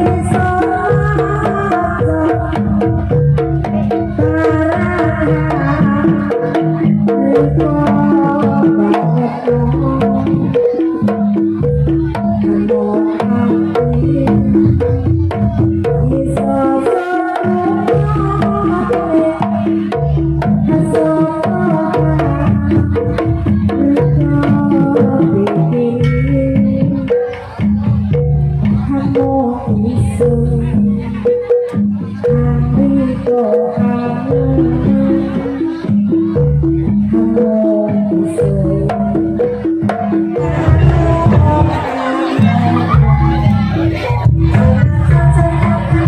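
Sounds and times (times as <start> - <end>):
pitched percussion notes: 0.0 - 46.0
steady drumming: 0.0 - 46.0.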